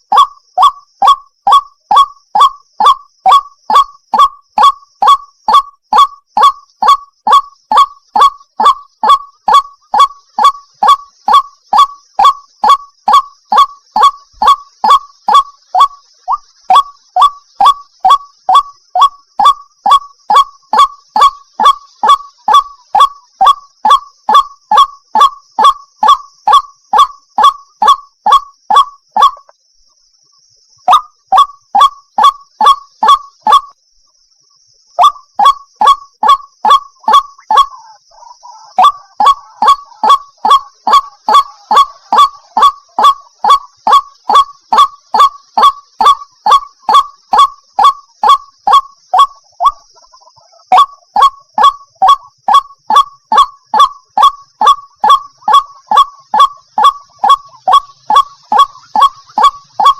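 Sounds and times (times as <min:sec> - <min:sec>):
waterhen calling: 0:00.0 - 0:29.5, 0:30.9 - 0:33.7, 0:35.0 - 0:59.9.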